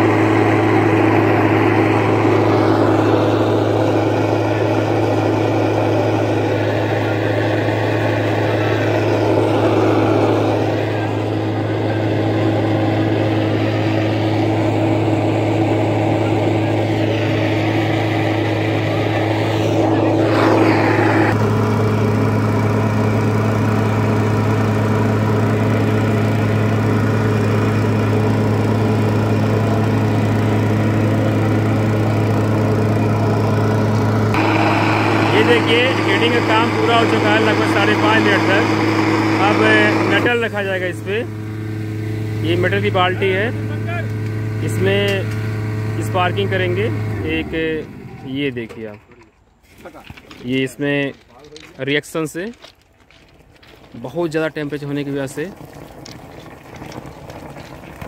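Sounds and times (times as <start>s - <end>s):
blower engine drone: 0.0s - 49.0s, 53.6s - 58.0s.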